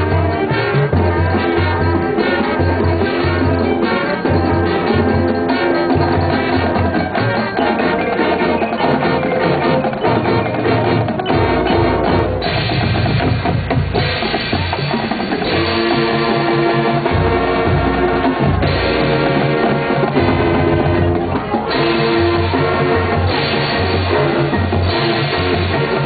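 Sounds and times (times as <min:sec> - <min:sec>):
brass chords: 0:00.0 - 0:26.0
snare and bass drums: 0:00.0 - 0:26.0.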